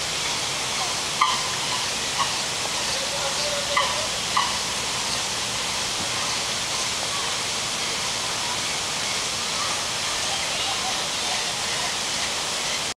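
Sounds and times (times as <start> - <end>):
water rushing: 0.0 - 12.9.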